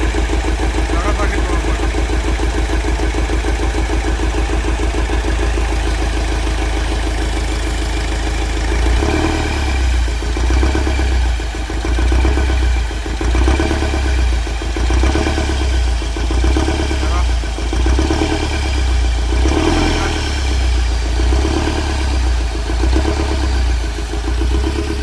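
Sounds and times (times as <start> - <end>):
diesel engine running: 0.0 - 25.0
engine tapping knock: 0.0 - 25.0.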